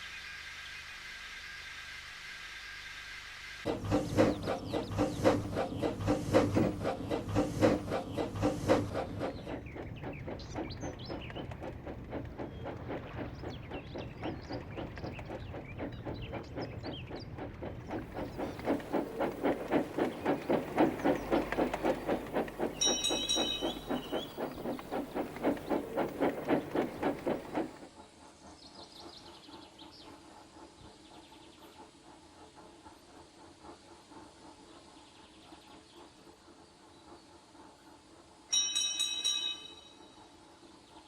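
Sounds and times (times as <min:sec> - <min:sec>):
steam locomotive chuffing: 0:03.6 - 0:41.0.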